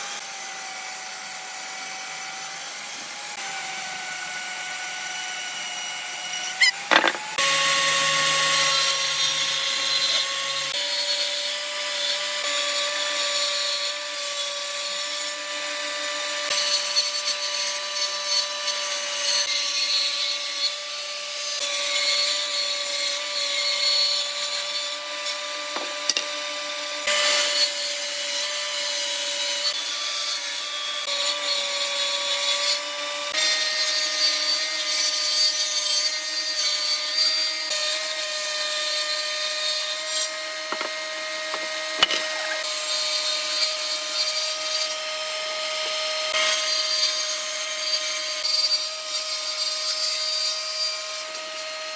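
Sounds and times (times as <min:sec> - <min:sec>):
power tool cutting wood: 0:00.0 - 0:51.9.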